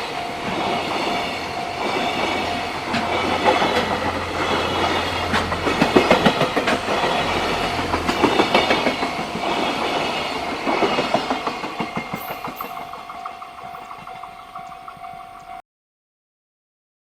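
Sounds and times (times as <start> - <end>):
train rumble: 0.0 - 15.6
train wheels clattering over rail joints: 0.4 - 15.5.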